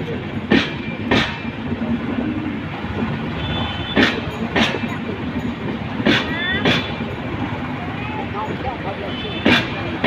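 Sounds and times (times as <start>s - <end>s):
train rumbling on track: 0.0s - 10.0s
wheels clacking over rail joint: 0.0s - 10.0s.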